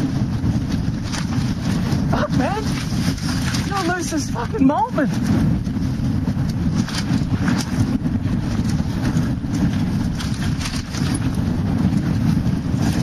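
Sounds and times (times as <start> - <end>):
bike knocks and rattles: 0.0 - 4.1, 5.0 - 13.0
wind buffeting microphone: 0.0 - 13.0.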